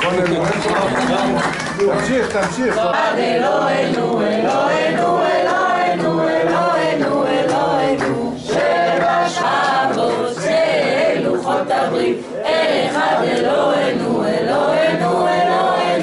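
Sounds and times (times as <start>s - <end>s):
group singing together: 0.7s - 16.0s.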